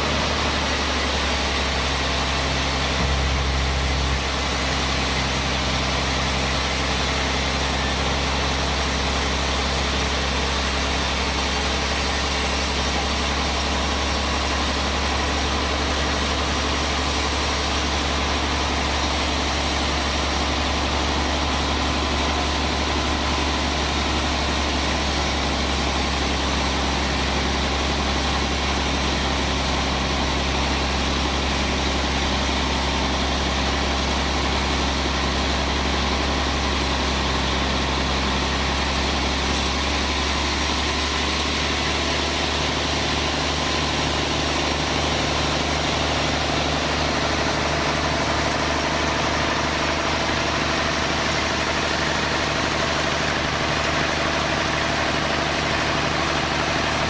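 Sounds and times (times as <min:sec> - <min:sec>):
bandsaw machinery humming: 0:00.0 - 0:57.0.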